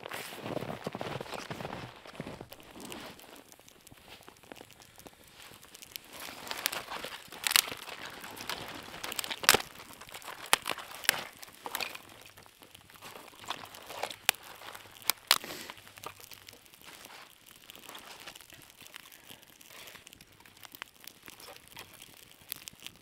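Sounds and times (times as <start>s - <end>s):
snow crunching: 0.0s - 22.5s.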